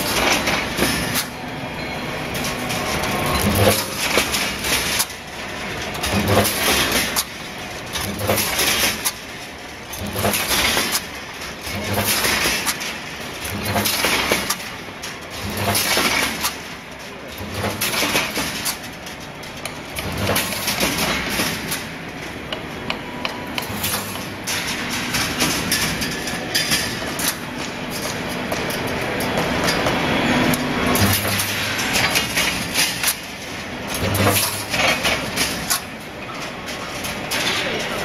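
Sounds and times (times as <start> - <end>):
wire mesh welding machine running: 0.0 - 38.0.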